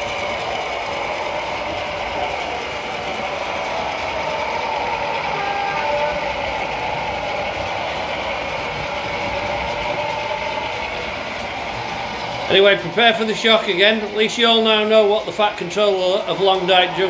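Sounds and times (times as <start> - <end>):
hum of model train running: 0.0 - 17.0.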